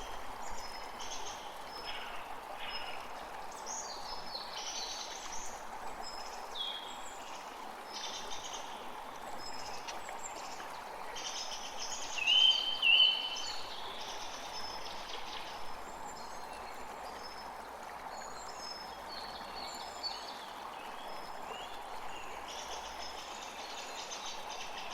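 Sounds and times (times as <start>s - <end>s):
steady rain hiss: 0.0s - 24.9s.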